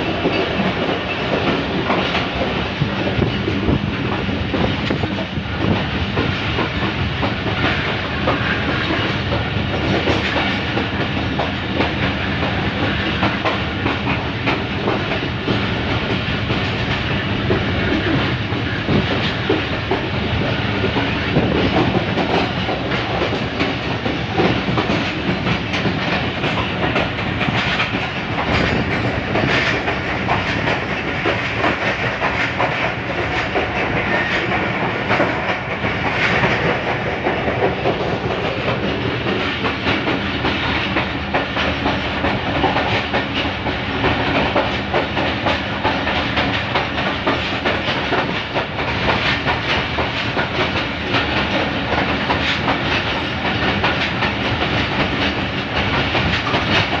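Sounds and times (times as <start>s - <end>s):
train engine drone: 0.0s - 57.0s
wheels clacking over rails: 0.0s - 57.0s.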